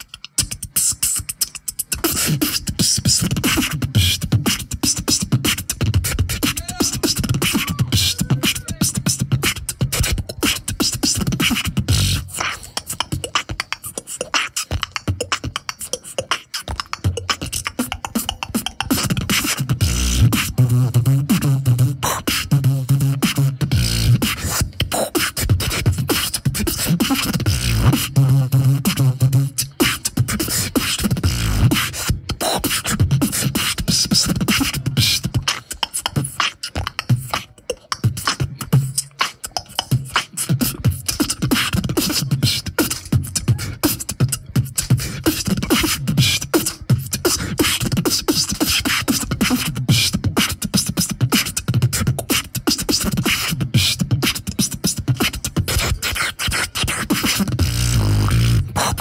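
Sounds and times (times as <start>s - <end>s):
beatboxing through microphone: 0.0s - 59.0s.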